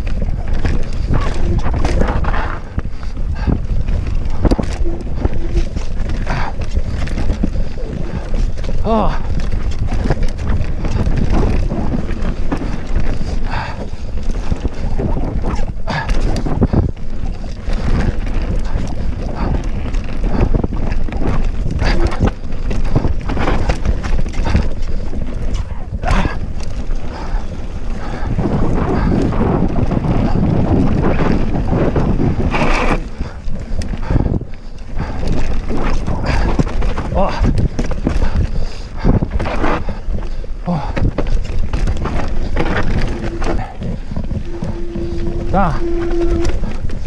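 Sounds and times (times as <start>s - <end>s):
bike rattling and knocking: 0.0s - 47.0s
bike tyres rumbling on dirt: 0.0s - 47.0s
wind buffeting microphone: 0.0s - 47.0s.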